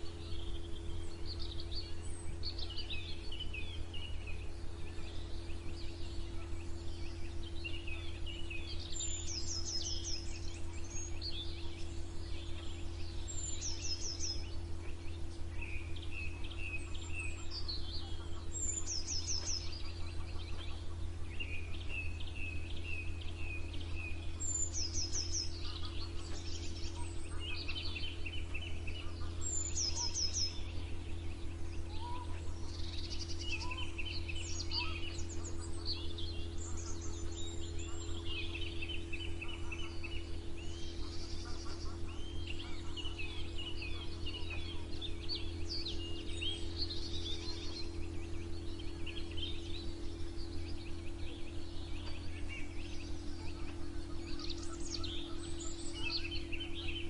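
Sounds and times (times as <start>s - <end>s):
songbirds singing: 0.0s - 57.0s
steady low hum: 0.0s - 57.0s.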